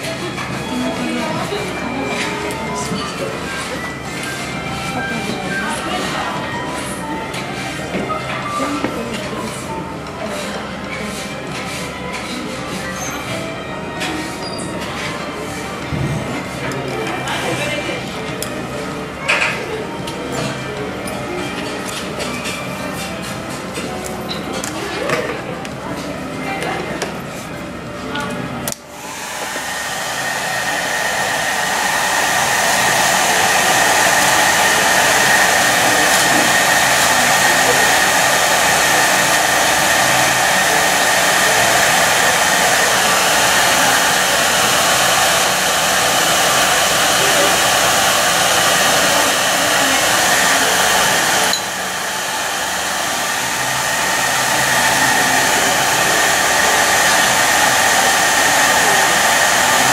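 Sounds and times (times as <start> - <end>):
hair dryer blowing: 0.0 - 25.8, 28.7 - 59.9.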